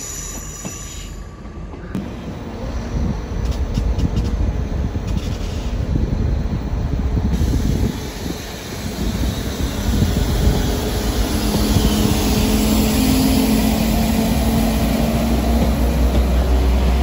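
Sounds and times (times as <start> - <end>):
diesel train engine drone: 0.0 - 17.0
train wheels on rails: 0.0 - 17.0.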